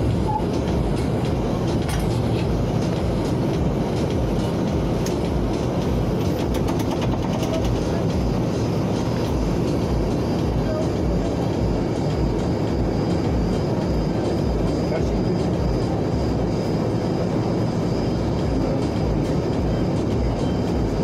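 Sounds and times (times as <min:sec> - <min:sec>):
vehicle road and engine rumble: 0:00.0 - 0:21.0.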